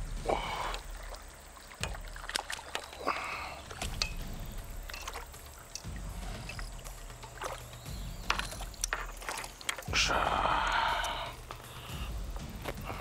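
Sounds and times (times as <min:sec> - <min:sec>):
fish splashing in water: 0:00.3 - 0:11.9.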